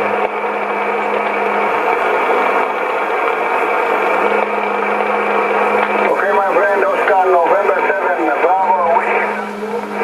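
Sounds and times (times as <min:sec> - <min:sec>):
radio static hiss: 0:00.0 - 0:10.0
steady low hum: 0:00.0 - 0:10.0.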